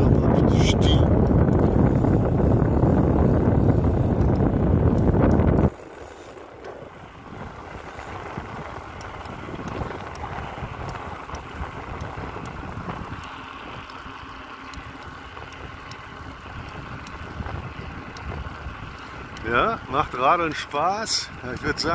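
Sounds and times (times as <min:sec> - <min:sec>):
bicycle rolling on asphalt: 0:00.0 - 0:21.9
wind buffeting microphone: 0:00.0 - 0:21.9.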